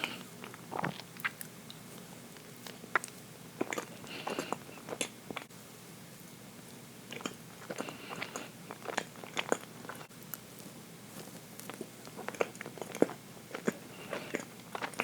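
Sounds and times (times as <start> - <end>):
person chewing cake: 0.0 - 5.5, 7.0 - 15.0.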